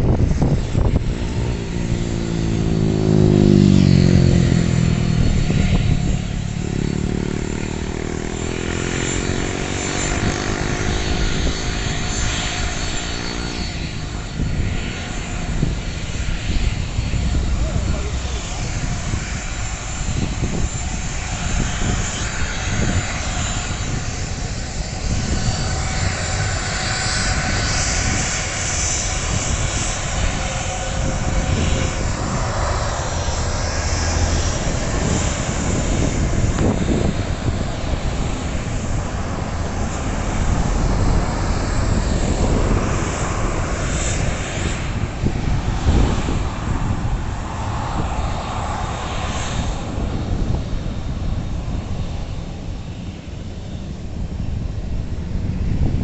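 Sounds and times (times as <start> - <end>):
jet engines at taxi power: 0.0 - 56.0.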